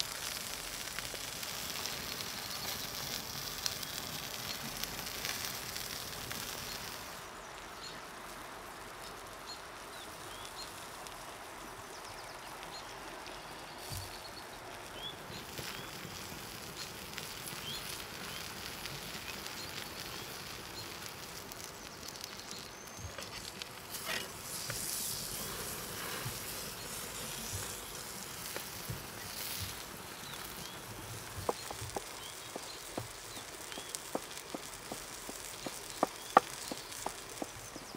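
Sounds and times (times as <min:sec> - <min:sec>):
fire crackling: 0:00.0 - 0:37.9
meat sizzling on hot stone: 0:00.0 - 0:37.9.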